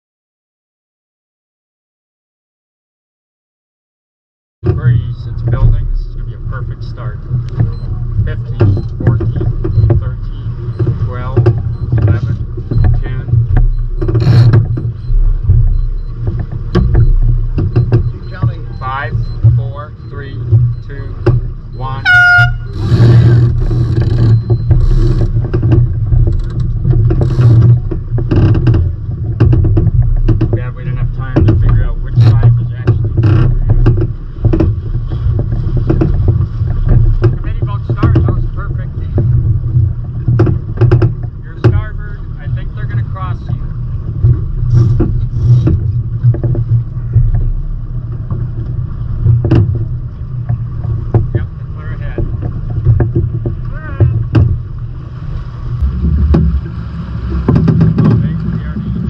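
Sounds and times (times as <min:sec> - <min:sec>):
rigging clicks and rattles: 0:04.6 - 0:59.0
water splashing against hulls: 0:04.6 - 0:59.0
wind buffeting microphone: 0:04.6 - 0:59.0.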